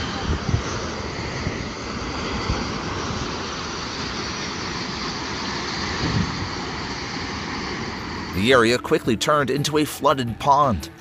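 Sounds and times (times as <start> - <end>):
water and gas blasting from well: 0.0 - 9.3.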